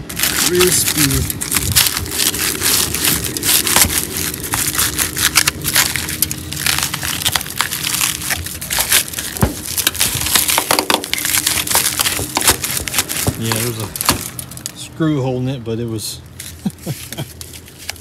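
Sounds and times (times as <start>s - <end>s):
rusty metal crunching and crackling: 0.0s - 18.0s.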